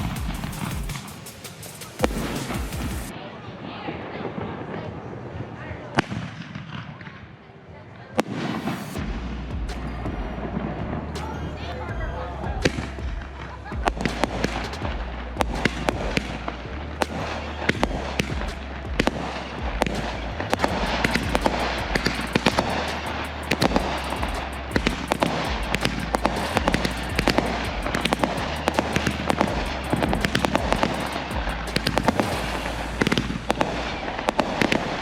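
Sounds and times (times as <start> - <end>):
fireworks barrage: 0.0 - 3.2, 8.2 - 35.0.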